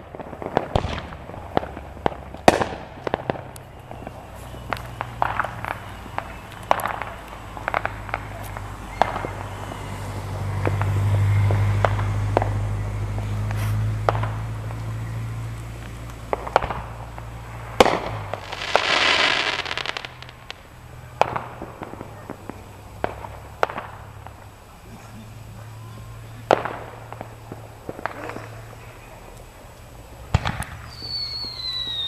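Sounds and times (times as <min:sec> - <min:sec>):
firework hissing burst: 0:00.0 - 0:32.0
fireworks bangs and pops: 0:00.0 - 0:32.0.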